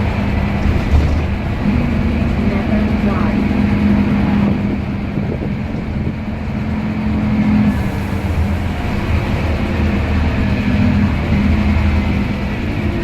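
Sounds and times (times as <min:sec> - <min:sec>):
bus diesel engine drone: 0:00.0 - 0:13.0
gearbox whine: 0:00.0 - 0:13.0.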